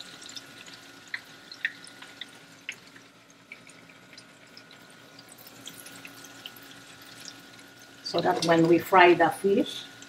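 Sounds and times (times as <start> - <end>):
butter sizzling in wok: 0.0 - 10.0.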